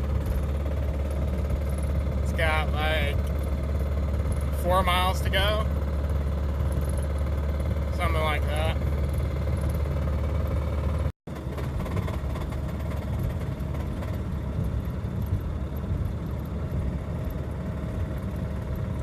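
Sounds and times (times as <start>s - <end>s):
car engine running with knock: 0.0s - 19.0s.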